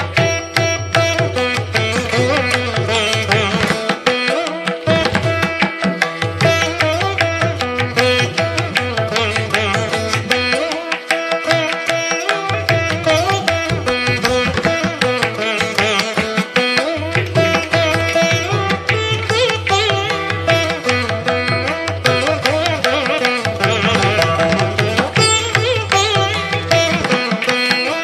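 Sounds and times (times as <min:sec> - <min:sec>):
hand drum rhythm: 0:00.0 - 0:28.0.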